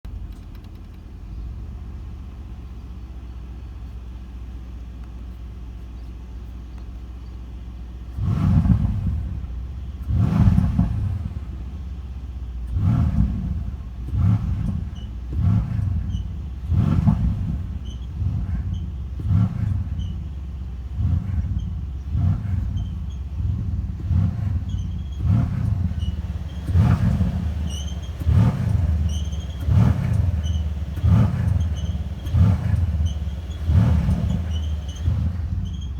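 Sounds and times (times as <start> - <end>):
car engine idling and revving: 0.0 - 35.9
exhaust flaps squeaking: 4.9 - 35.9.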